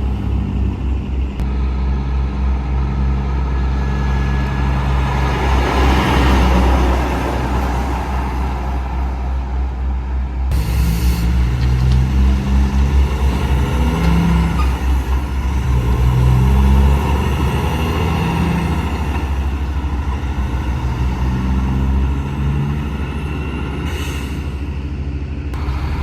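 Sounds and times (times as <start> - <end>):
heavy truck engine passing: 0.0 - 26.0.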